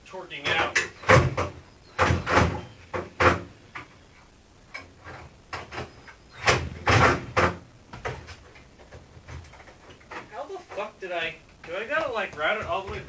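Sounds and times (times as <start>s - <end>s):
knocks and clunks: 0.4s - 4.0s, 4.7s - 13.0s.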